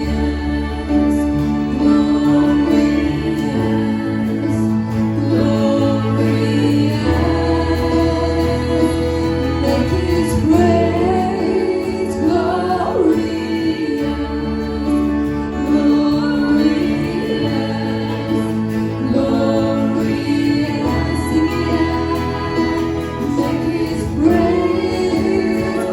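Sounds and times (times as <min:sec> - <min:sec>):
held chords: 0:00.0 - 0:25.9
low bass line: 0:00.0 - 0:25.9
voices singing: 0:00.0 - 0:25.9.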